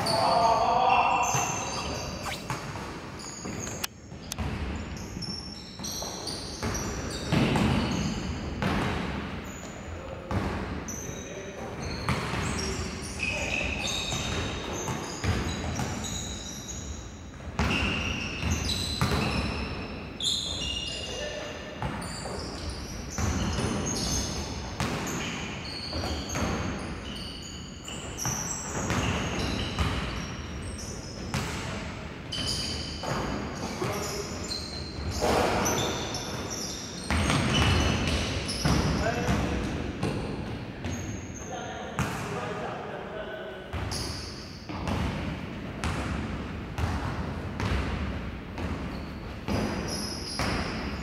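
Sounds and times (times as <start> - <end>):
sneakers squeaking on court: 1.0 - 8.8, 10.3 - 31.6, 32.3 - 42.2, 43.7 - 51.0.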